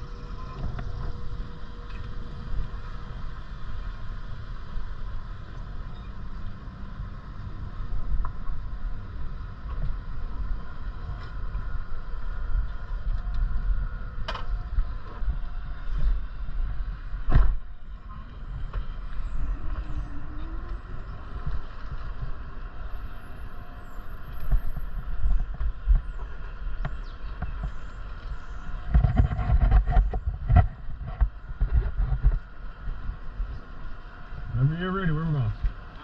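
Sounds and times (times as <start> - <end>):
vehicle driving rumble: 0.0 - 36.0.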